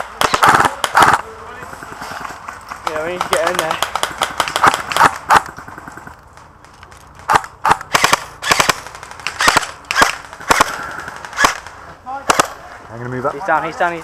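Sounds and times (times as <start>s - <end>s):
airsoft guns firing: 0.0s - 12.8s.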